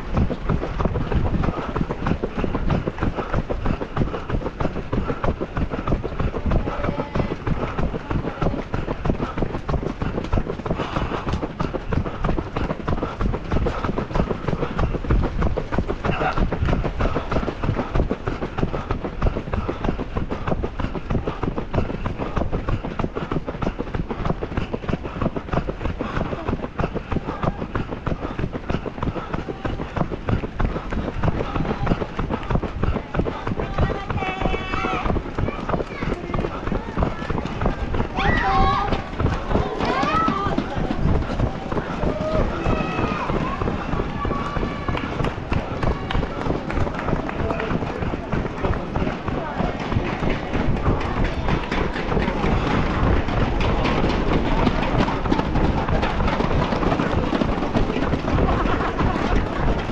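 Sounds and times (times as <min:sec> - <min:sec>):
running footsteps on road: 0:00.0 - 0:59.9
wind buffeting microphone: 0:00.0 - 0:59.9.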